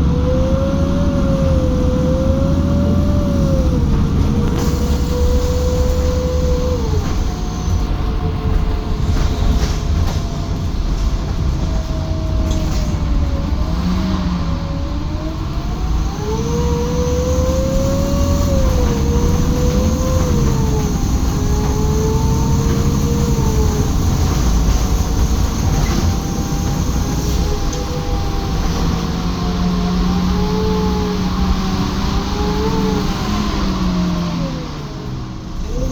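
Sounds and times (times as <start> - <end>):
bus engine rumble: 0.0 - 35.9
bus whine: 0.0 - 35.9.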